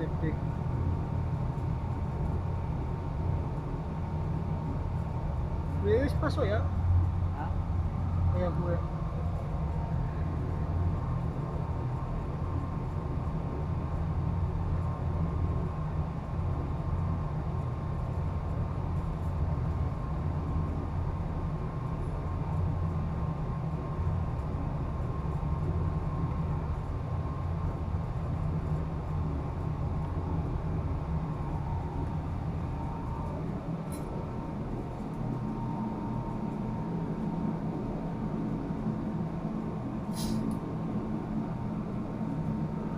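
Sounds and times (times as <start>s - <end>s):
faint steady whine: 0.0s - 42.9s
low machinery drone: 0.0s - 42.9s.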